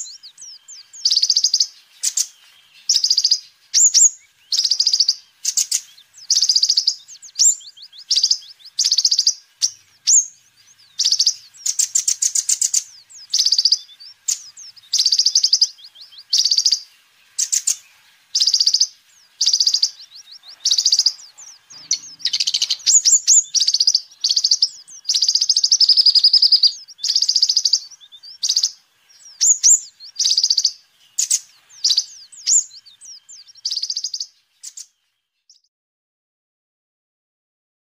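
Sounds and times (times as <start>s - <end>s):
sunbird singing high chirps: 0.0s - 35.7s.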